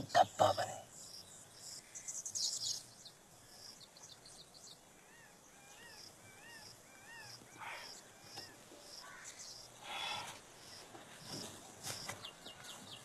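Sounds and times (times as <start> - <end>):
crickets chirping: 0.0 - 12.4.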